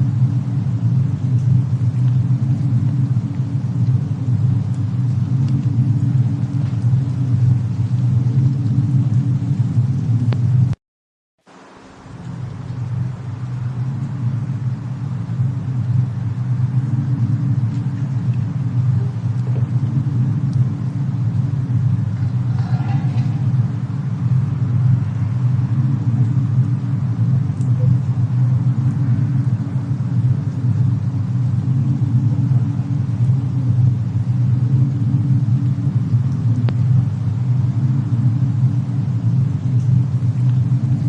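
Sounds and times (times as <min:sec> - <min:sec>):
fire crackles: 0:00.0 - 0:10.8, 0:11.4 - 0:41.0
low rumble: 0:00.0 - 0:10.8, 0:11.5 - 0:41.0.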